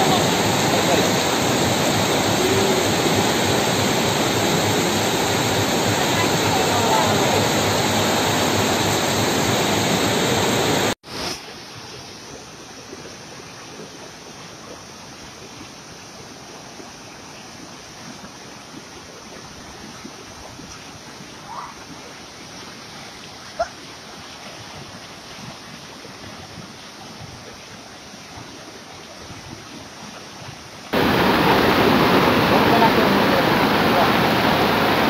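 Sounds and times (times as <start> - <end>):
flooded stream rushing: 0.0 - 35.0
floodwater rushing: 0.0 - 35.0.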